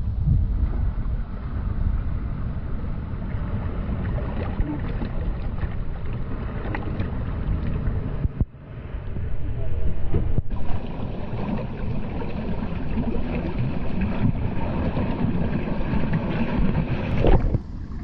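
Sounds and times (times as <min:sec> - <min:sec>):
surf: 0:00.0 - 0:18.0
wind buffeting microphone: 0:00.0 - 0:18.0.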